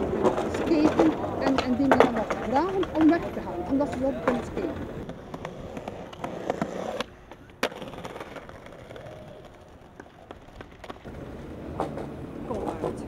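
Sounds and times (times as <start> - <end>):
skateboard wheels rolling on bricks: 0.0 - 13.0.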